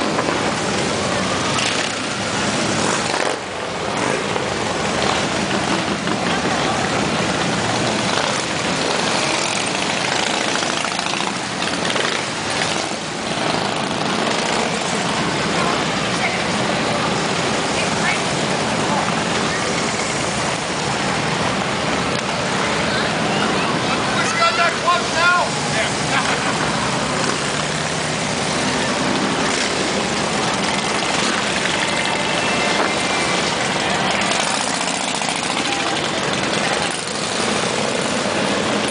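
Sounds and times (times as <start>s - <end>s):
motorcycles riding past: 0.0s - 38.9s.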